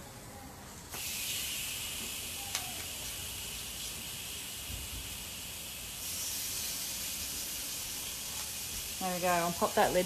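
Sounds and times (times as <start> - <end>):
meat sizzling on a grill: 0.7 - 10.0.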